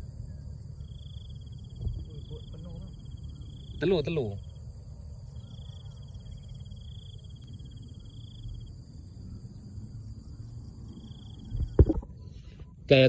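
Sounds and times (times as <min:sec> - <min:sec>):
high-pitched insect drone: 0:00.0 - 0:12.0
insect pulsed trill: 0:00.0 - 0:13.0.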